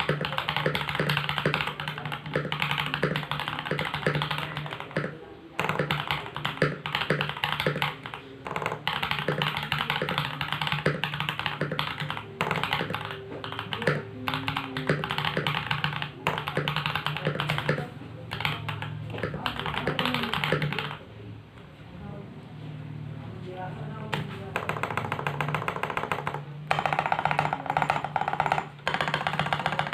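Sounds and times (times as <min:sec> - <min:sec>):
mechanical keyboard typing: 0:00.0 - 0:21.0, 0:24.0 - 0:29.9.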